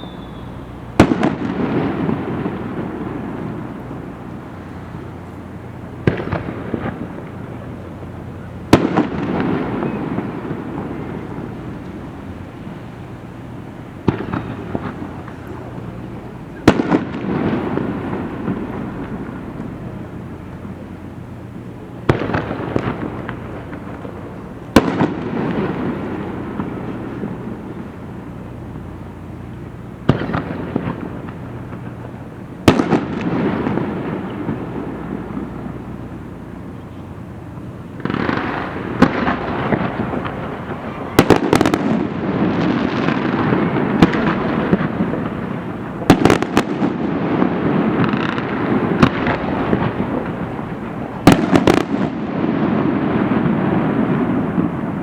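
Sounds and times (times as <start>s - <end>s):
dense fireworks crackling: 0.0s - 55.0s
fireworks booming with echo: 0.0s - 55.0s.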